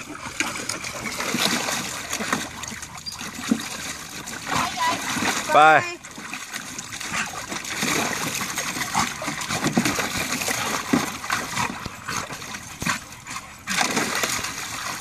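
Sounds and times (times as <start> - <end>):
dogs vocalizing: 0.0 - 4.5, 6.8 - 14.9
water splashing in pool: 0.0 - 15.0.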